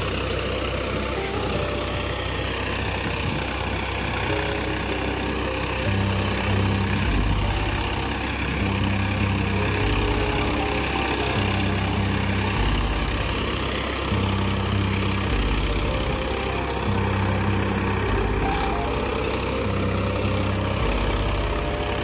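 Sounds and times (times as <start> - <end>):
background music with bass line: 0.0 - 22.0
tractor diesel engine running: 0.0 - 22.0.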